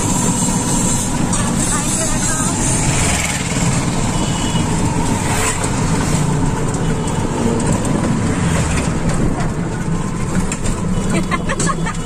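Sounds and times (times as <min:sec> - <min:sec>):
road vehicle rumbling: 0:00.0 - 0:12.0.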